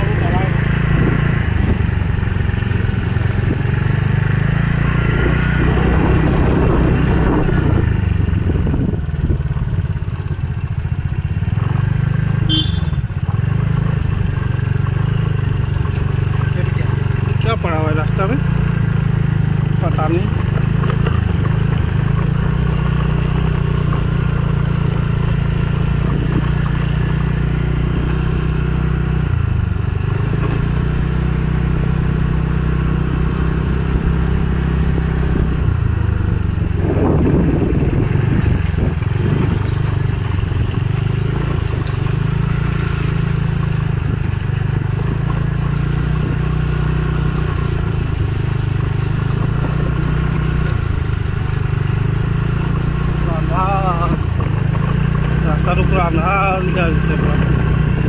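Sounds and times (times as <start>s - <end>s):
motor scooter engine running: 0.0s - 58.0s
road and wind noise: 0.0s - 58.0s.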